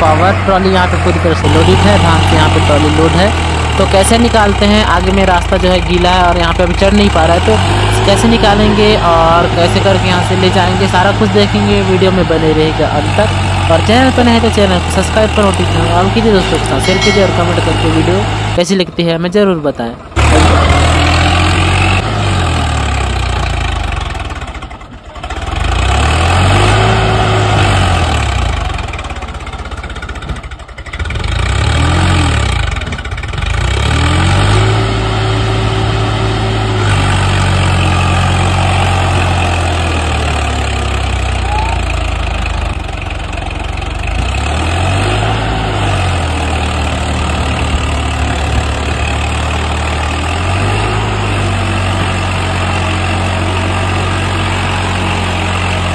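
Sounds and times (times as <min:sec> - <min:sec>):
tractor diesel engine labouring: 0:00.0 - 0:55.9.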